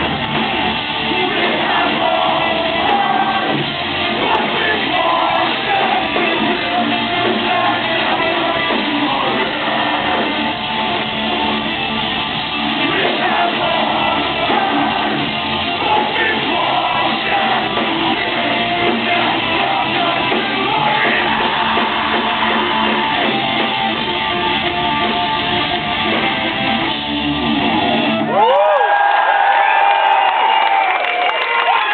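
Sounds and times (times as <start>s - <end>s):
metal band playing live: 0.0s - 28.6s.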